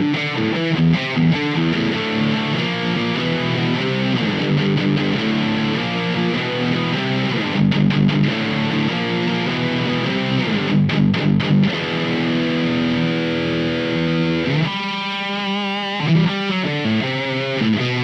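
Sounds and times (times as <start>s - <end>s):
distorted electric guitar: 0.0s - 18.0s.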